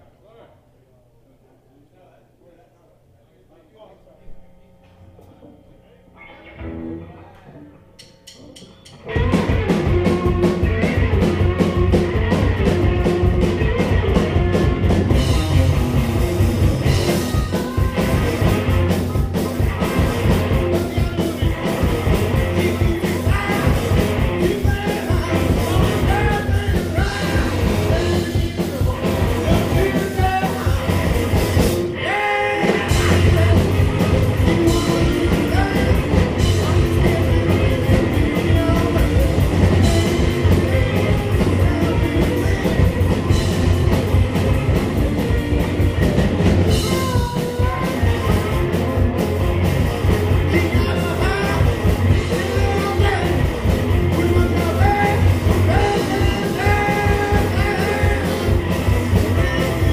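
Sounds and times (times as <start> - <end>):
rock band playing live: 6.4 - 59.9.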